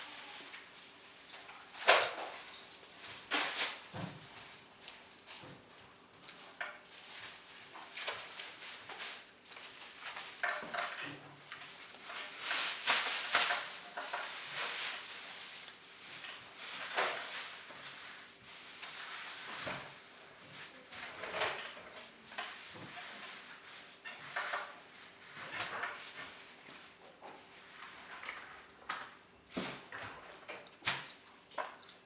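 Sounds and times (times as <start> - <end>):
clatter of things handled: 0.0 - 32.0.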